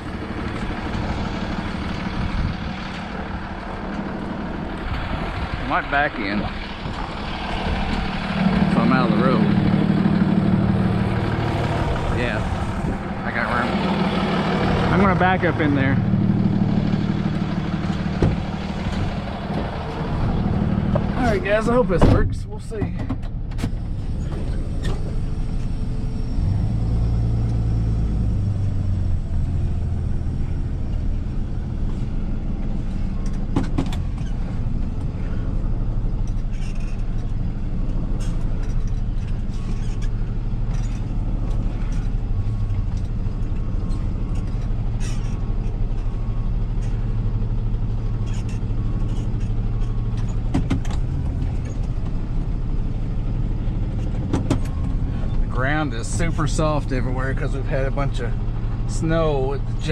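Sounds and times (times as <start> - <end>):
tow truck engine running: 0.0 - 59.9.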